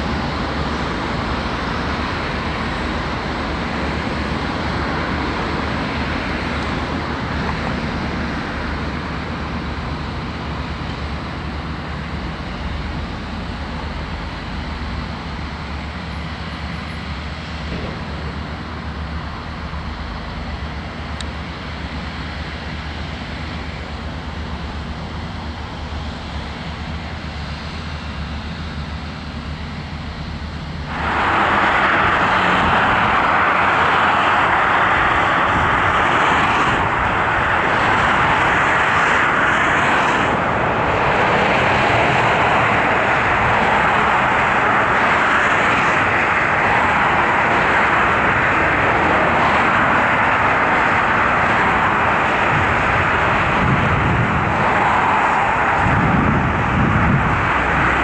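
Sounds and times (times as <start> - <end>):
diesel machinery humming: 0.0 - 58.0
loud rushing noise: 0.0 - 58.0.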